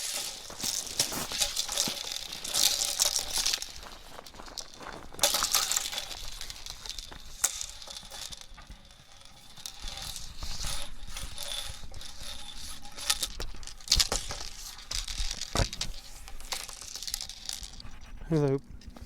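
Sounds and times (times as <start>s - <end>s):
hula hoop rattling and clicking: 0.0s - 19.0s
hula hoop rustle: 0.0s - 19.0s.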